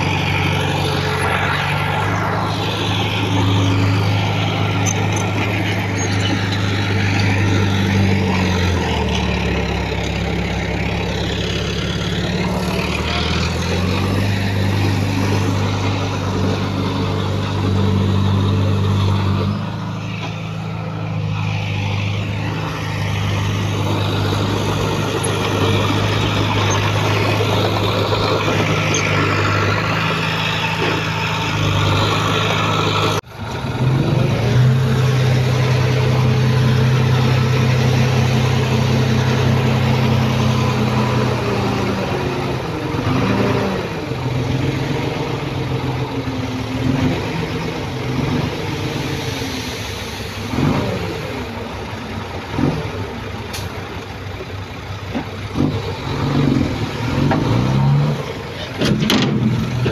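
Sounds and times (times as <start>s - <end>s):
heavy machinery engines running: 0.0s - 59.9s.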